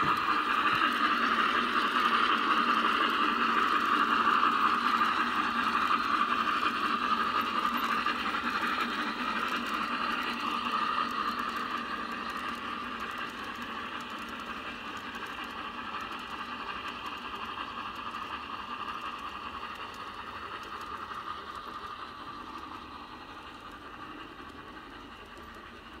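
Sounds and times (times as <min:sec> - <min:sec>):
model train wheels rattling: 0:00.0 - 0:26.0.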